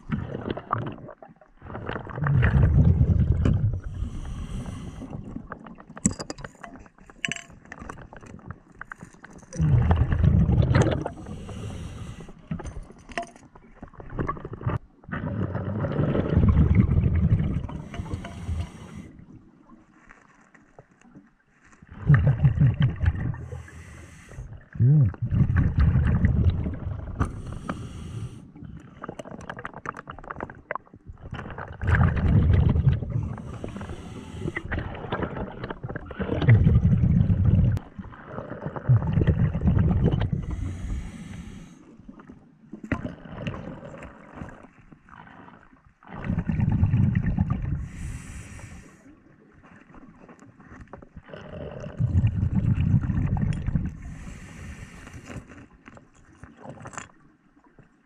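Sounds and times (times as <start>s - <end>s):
exhaled bubbles underwater: 0.0s - 6.0s, 7.7s - 12.7s, 13.6s - 19.6s, 21.9s - 57.1s.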